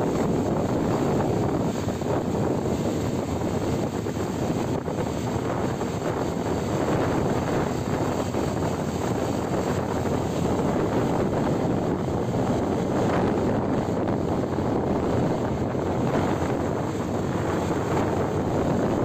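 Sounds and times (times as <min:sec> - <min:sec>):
vehicle road noise: 0:00.0 - 0:19.0
wind rushing on microphone: 0:00.0 - 0:19.0.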